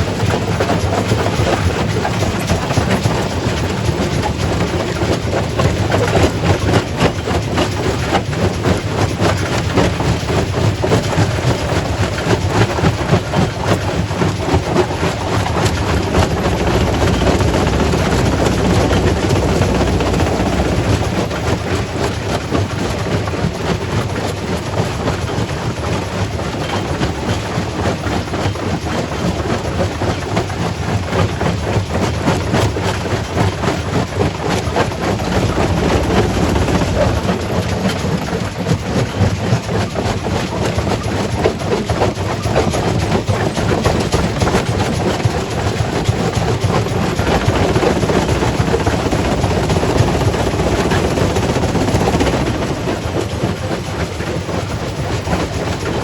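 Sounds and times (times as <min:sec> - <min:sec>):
rock crusher running: 0:00.2 - 0:23.8, 0:33.0 - 0:56.0.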